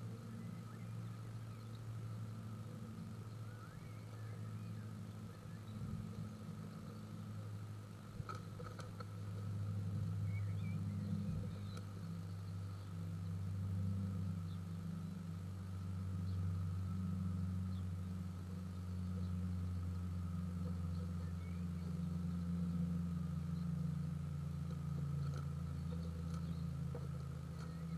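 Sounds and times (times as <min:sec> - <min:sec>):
faint thin whine: 0:00.0 - 0:27.9
steady low hum: 0:00.0 - 0:27.9.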